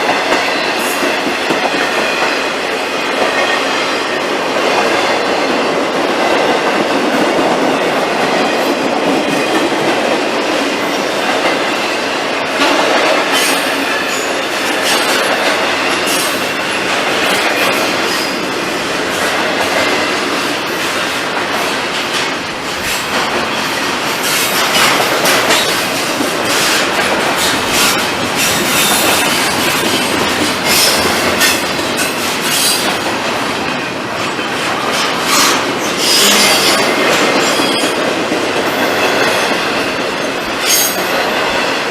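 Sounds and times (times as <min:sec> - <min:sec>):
train cars rumbling past: 0:00.0 - 0:41.9
wheels clickety-clack: 0:00.0 - 0:41.9.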